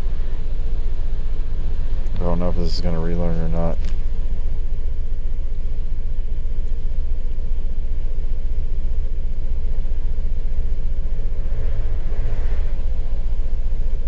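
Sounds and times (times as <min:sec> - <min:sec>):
engine idling with misfire: 0:00.0 - 0:12.1.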